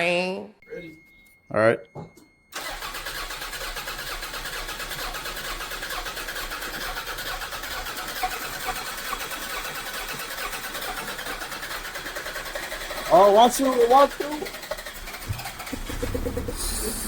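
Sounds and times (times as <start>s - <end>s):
car engine cranking on starter: 2.5s - 17.0s.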